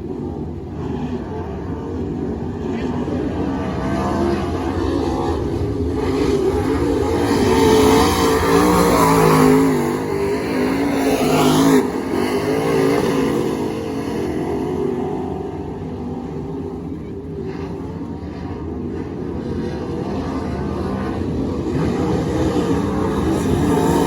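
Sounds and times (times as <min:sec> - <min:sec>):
race car engine running hard: 0:00.0 - 0:24.0.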